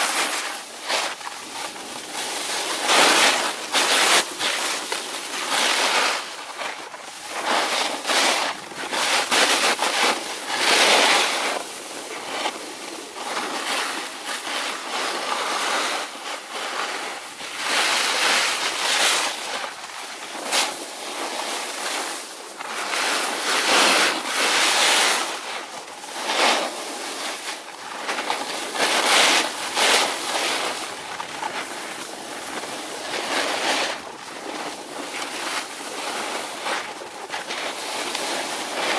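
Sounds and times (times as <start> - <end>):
snowboard carving over snow: 0.0 - 38.9.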